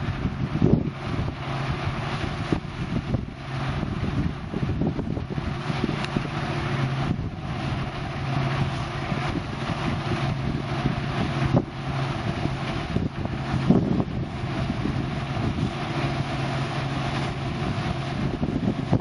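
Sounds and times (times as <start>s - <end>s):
combine harvester engine hum: 0.0s - 19.0s
threshing machinery noise: 0.0s - 19.0s
wind buffeting microphone: 0.0s - 19.0s.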